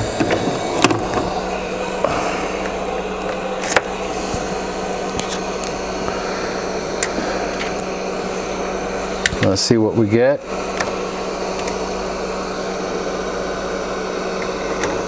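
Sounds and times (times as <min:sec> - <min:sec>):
fan blower noise: 0:00.0 - 0:15.0
low hum: 0:00.0 - 0:15.0.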